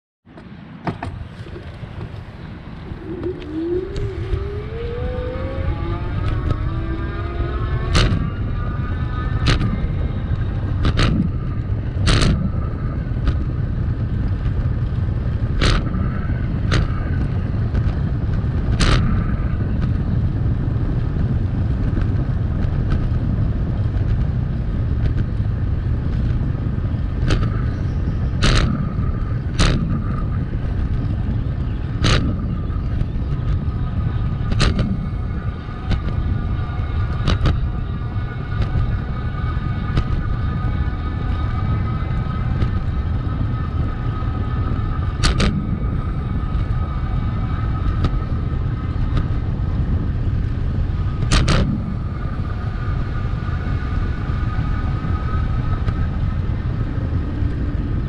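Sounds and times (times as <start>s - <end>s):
wind and road noise: 0.2s - 58.0s
rising whine: 0.6s - 58.0s.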